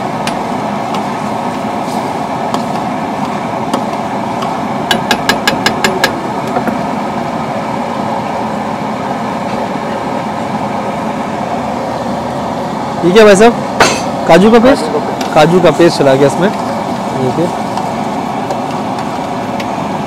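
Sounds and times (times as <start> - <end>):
steady background roar: 0.0 - 20.0.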